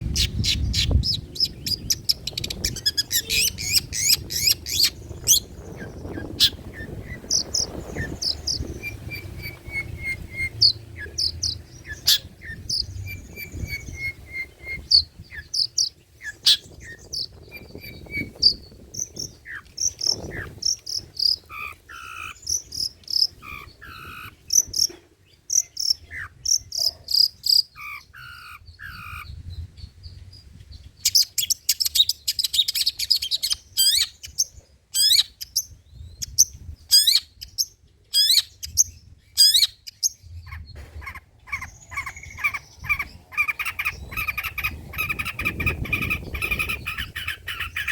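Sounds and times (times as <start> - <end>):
bird singing fast varied song: 0.0 - 47.9.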